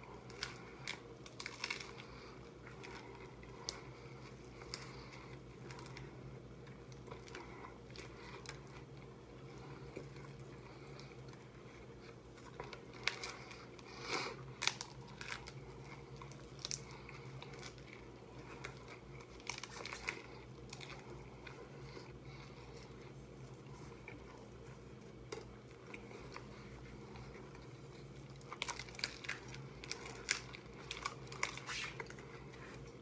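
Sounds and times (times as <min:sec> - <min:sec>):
crunching and chewing tacos: 0:00.0 - 0:33.0.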